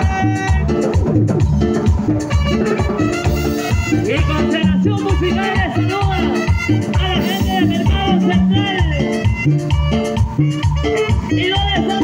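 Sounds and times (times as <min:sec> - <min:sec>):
upbeat latin dance music: 0:00.0 - 0:12.0.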